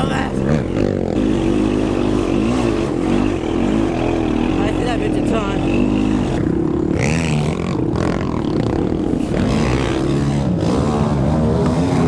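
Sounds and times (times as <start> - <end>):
quad engine revving: 0.0 - 12.0.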